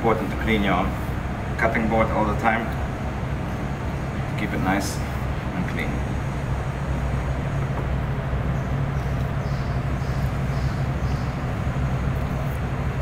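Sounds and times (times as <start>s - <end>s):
ventilation system humming: 0.0s - 13.0s.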